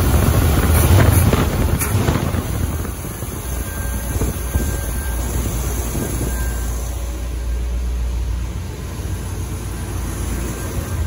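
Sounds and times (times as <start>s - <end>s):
vet engine idling: 0.0s - 11.0s.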